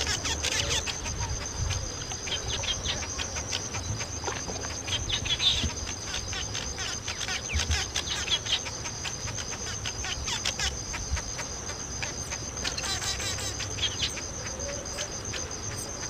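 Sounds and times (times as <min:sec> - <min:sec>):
high-pitched insect drone: 0:00.0 - 0:16.0
weaver birds chattering: 0:00.0 - 0:16.0.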